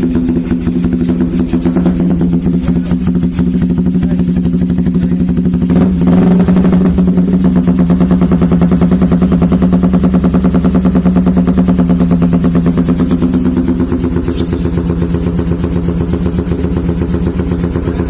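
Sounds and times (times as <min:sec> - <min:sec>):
motorcycle engine idling: 0:00.0 - 0:18.0
motorcycle engine revving: 0:00.0 - 0:18.0.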